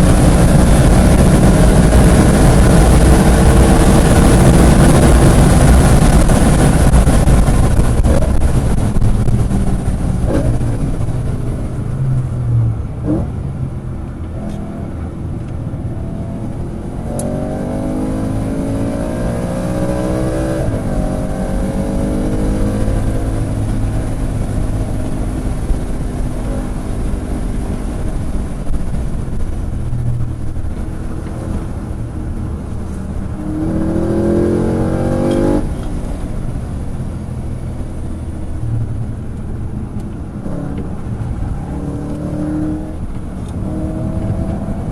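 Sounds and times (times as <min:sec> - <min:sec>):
car engine accelerating hard: 0:00.0 - 0:44.9
road and wind rumble: 0:00.0 - 0:44.9.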